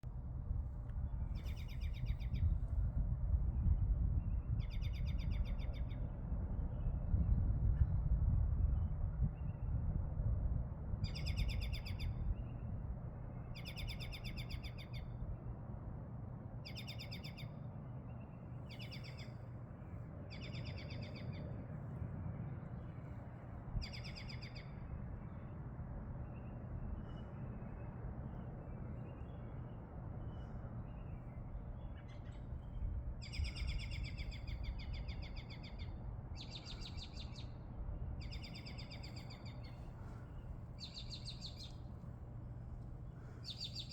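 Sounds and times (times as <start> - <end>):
steady low rumble: 0.0 - 43.9.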